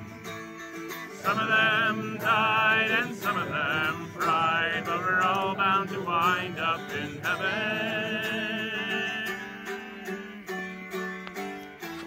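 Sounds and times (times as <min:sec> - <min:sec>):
acoustic guitar: 0:00.0 - 0:12.0
person singing: 0:01.1 - 0:10.8.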